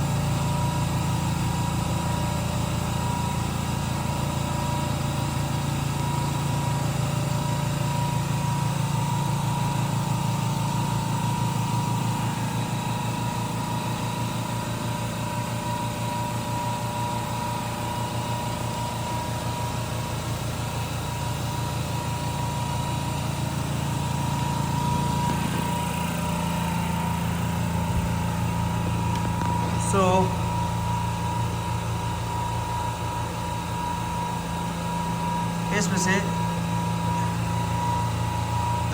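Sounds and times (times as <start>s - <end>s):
air compressor low hum: 0.0s - 38.9s
steady high whine: 0.0s - 38.9s.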